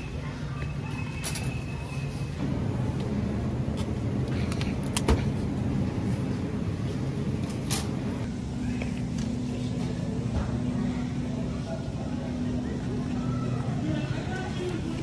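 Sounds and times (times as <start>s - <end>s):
low supermarket rumble: 0.0s - 15.0s.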